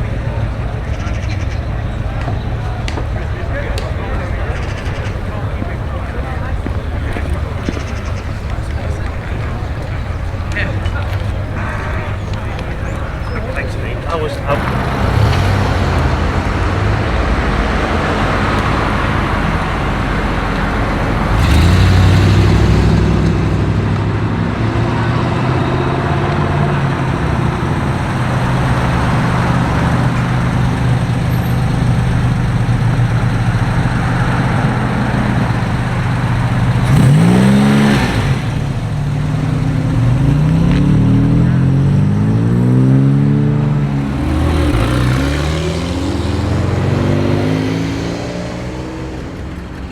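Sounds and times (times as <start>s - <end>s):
car engine revving: 0.0s - 49.9s
car engines idling: 0.0s - 49.9s.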